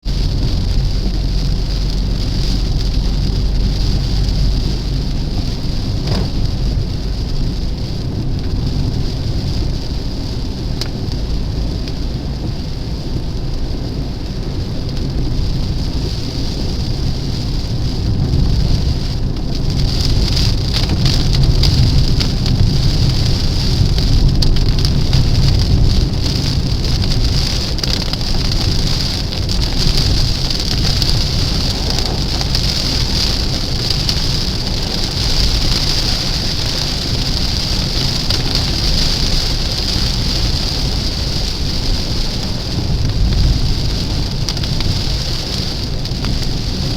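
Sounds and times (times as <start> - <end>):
moving car rumble: 0.0 - 46.9
rain pattering on a car: 0.0 - 46.9.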